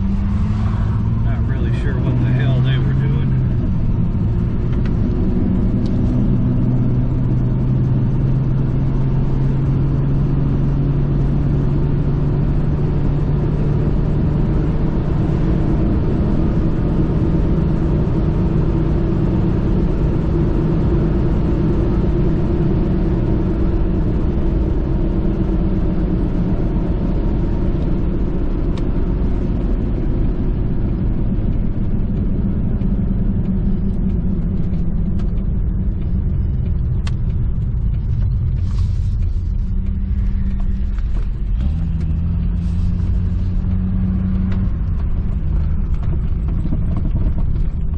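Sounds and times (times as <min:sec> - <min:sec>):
car engine drone: 0:00.0 - 0:47.9
road rumble: 0:00.0 - 0:47.9.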